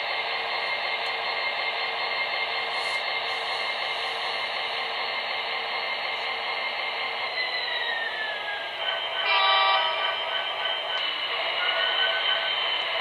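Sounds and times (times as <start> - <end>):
diesel locomotive sound from small speaker: 0.0 - 13.0.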